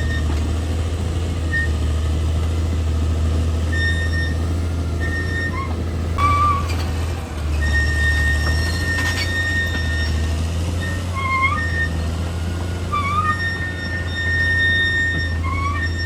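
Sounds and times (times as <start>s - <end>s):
high-pitched squeals: 0.0s - 0.6s, 3.7s - 16.0s
bulldozer diesel engine running: 0.0s - 16.0s.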